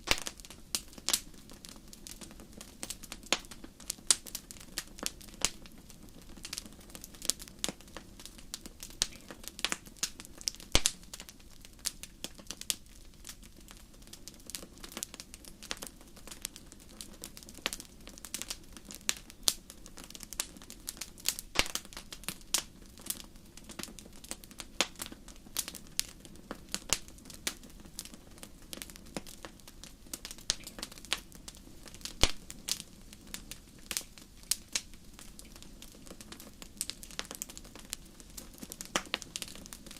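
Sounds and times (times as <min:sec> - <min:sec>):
low steady hiss: 0:00.0 - 0:39.9
wood fire crackling: 0:00.0 - 0:39.9.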